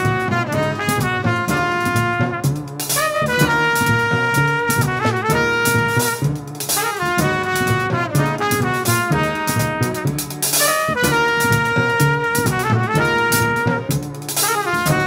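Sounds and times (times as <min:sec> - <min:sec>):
drums: 0:00.0 - 0:15.0
jazz trumpet soloing: 0:00.0 - 0:15.0.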